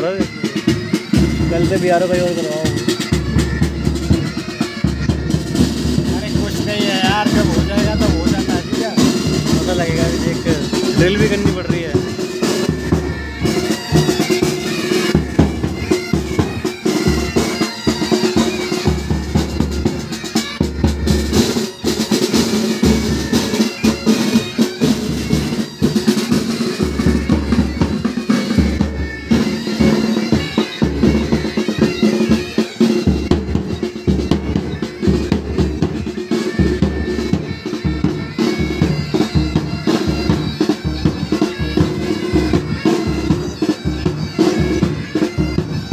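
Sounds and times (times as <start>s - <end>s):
snare drumming: 0.0s - 45.8s
bagpipes playing a tune: 0.0s - 45.9s.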